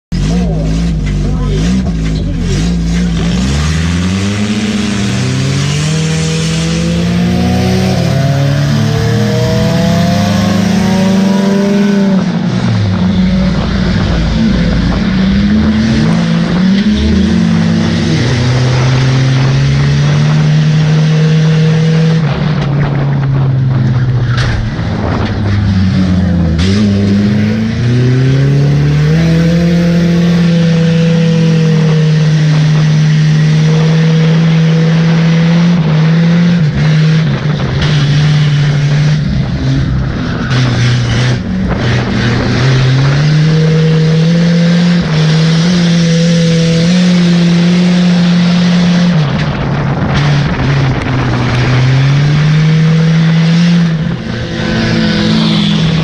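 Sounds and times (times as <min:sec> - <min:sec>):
race car engine revving: 0:00.1 - 0:56.0.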